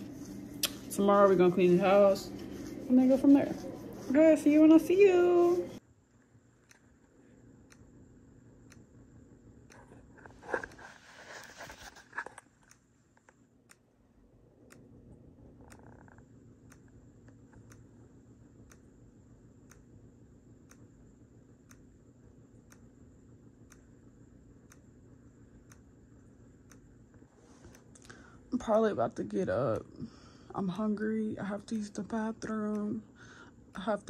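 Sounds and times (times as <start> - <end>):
low steady hum: 0.0 - 34.0
faint clock ticking: 0.1 - 5.8, 6.6 - 10.8, 12.6 - 14.0, 14.6 - 34.0.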